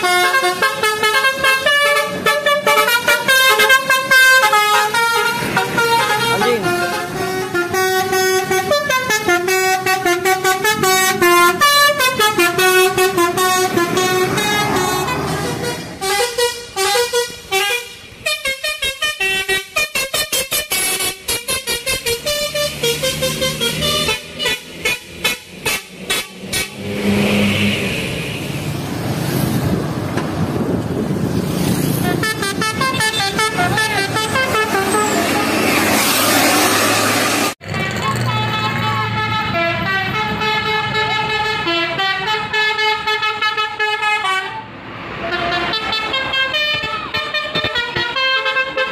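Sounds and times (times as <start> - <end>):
musical train horn playing tune: 0.0 - 26.8, 32.0 - 37.6, 38.3 - 44.6, 45.2 - 48.9.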